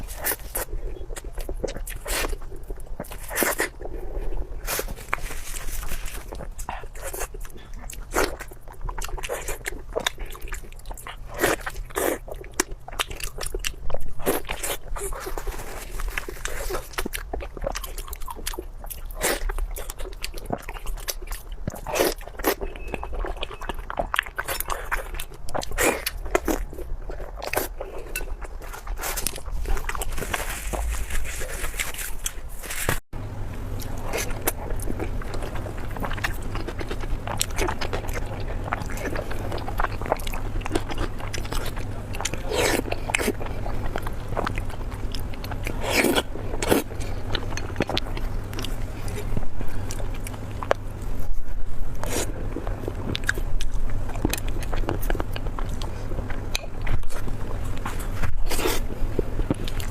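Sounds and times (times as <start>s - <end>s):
biting and chewing food: 0.0s - 59.9s.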